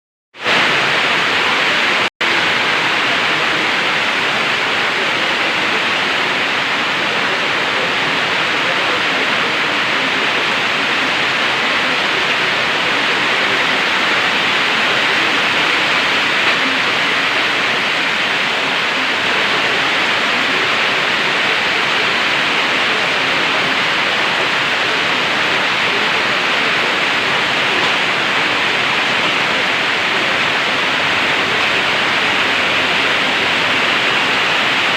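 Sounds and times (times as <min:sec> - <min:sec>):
heavy rain falling: 0:00.3 - 0:34.9.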